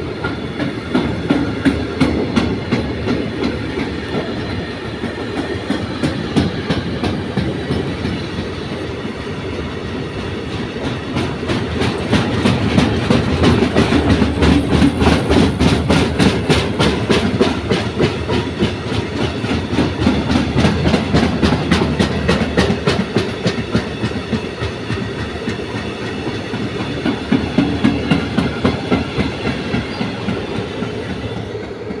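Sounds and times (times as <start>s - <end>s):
train wheels clickety-clack: 0.0s - 32.0s.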